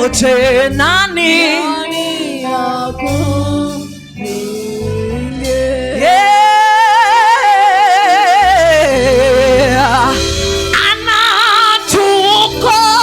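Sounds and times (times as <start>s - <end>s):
instrumental backing: 0.0s - 13.0s
person singing with vibrato: 0.0s - 13.0s.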